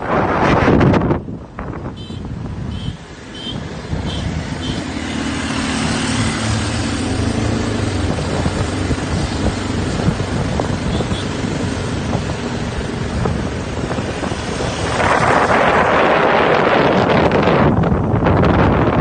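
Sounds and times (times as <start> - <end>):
tyres on road: 0.0 - 19.0
wind rushing over microphone: 0.0 - 19.0
scooter engine hum: 1.9 - 18.8.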